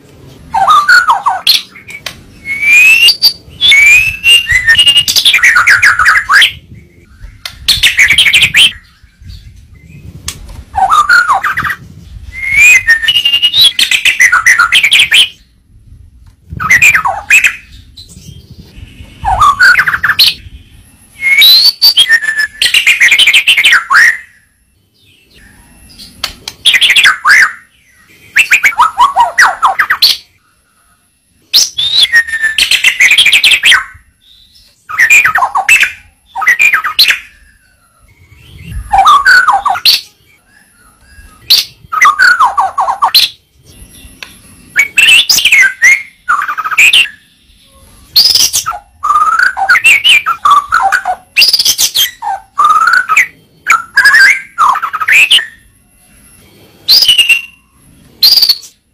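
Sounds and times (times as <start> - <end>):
songbird singing whistled phrases: 0.5 - 10.1, 10.8 - 15.6, 16.5 - 30.4, 31.5 - 55.7, 56.9 - 58.8.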